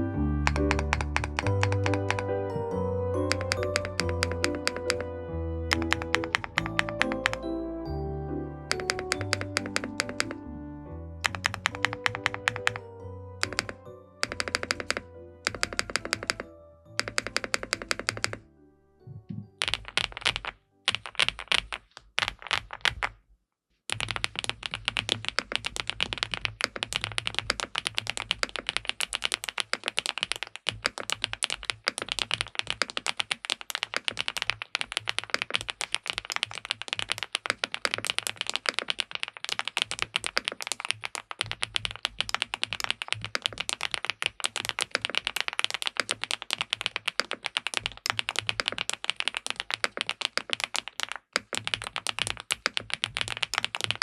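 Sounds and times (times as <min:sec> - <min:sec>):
mechanical keyboard typing: 0:00.4 - 0:02.4, 0:03.2 - 0:05.1, 0:05.7 - 0:07.5, 0:08.7 - 0:10.4, 0:11.2 - 0:18.4, 0:19.6 - 0:23.1, 0:23.9 - 0:54.0.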